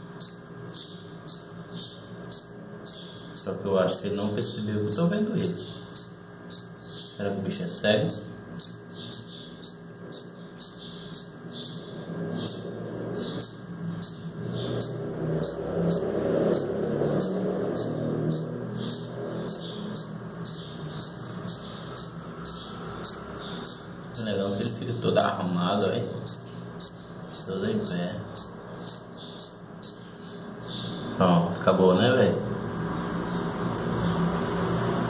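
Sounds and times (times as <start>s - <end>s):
cricket chirping: 0.2s - 12.8s, 13.4s - 30.1s.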